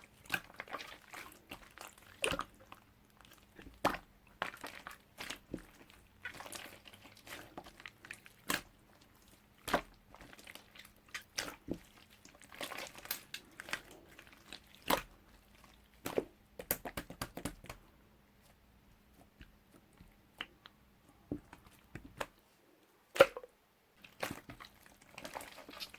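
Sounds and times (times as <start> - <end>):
clay crunching and crinkling: 0.0 - 25.9.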